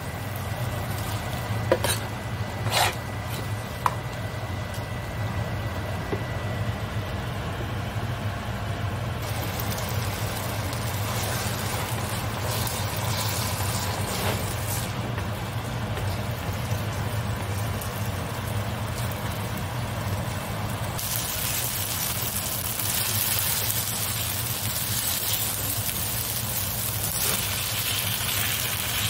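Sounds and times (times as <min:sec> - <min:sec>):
noodles sizzling in a pan: 0:00.0 - 0:04.6, 0:06.6 - 0:29.0
steady low hum: 0:00.0 - 0:29.0.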